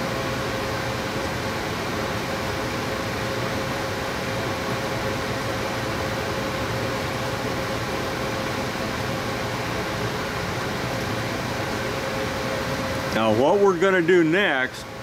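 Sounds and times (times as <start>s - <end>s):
gas furnace running: 0.0s - 15.0s.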